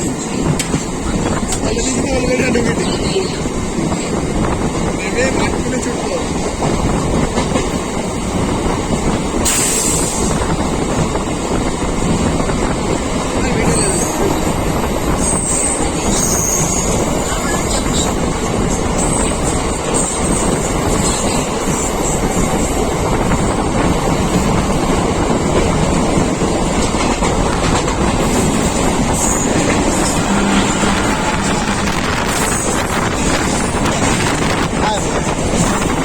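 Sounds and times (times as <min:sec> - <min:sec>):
passenger train rumbling: 0:00.0 - 0:36.0.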